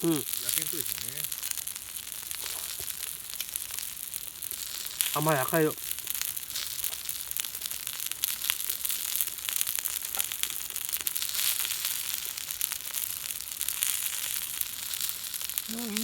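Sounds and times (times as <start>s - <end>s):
meat sizzling on a griddle: 0.0s - 16.0s.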